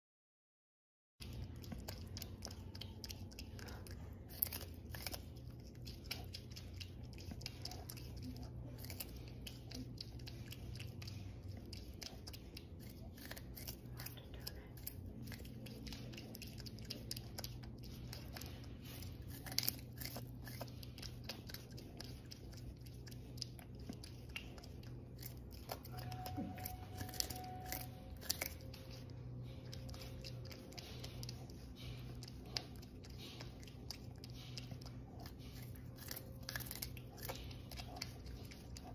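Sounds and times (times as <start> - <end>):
porcupine gnawing corn: 1.2 - 38.9.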